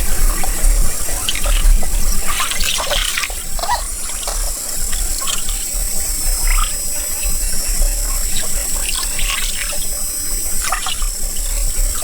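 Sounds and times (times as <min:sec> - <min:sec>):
water sloshing and splashing: 0:00.0 - 0:06.8, 0:08.1 - 0:12.0.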